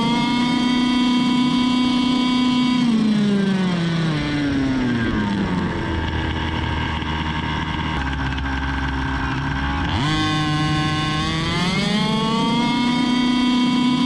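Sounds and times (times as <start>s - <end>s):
two-stroke model car engine: 0.0s - 14.0s.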